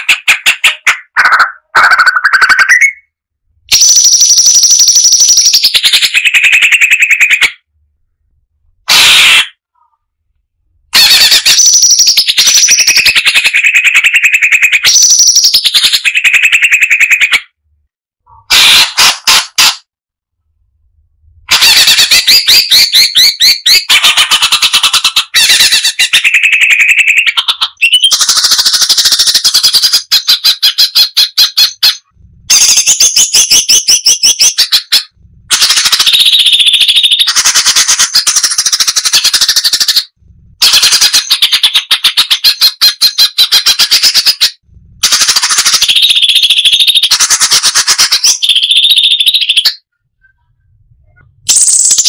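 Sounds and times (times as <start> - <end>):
bird chattering song: 0.0 - 3.1, 3.7 - 7.7, 11.0 - 17.6, 21.5 - 50.5, 51.1 - 52.0.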